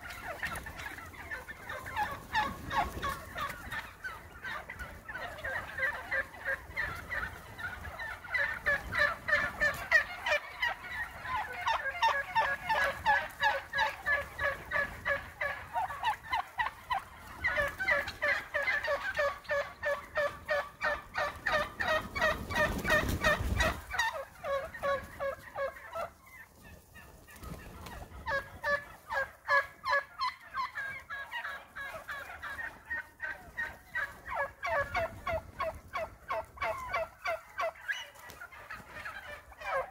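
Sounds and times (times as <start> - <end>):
flock of turkeys calling: 0.0 - 39.9.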